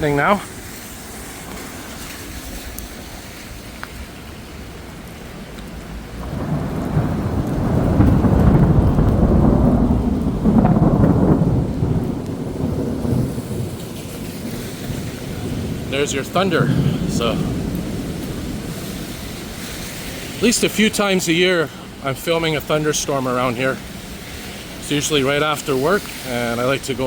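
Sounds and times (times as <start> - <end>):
heavy rain: 0.0 - 27.0
thunder rumbling: 0.0 - 27.0.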